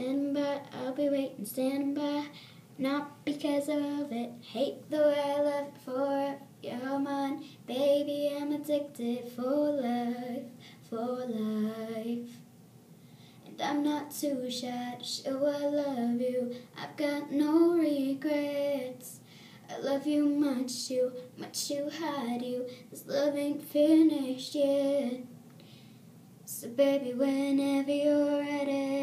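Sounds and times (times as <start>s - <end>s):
girl singing unaccompanied: 0.0s - 12.5s, 13.4s - 25.4s, 26.4s - 29.0s.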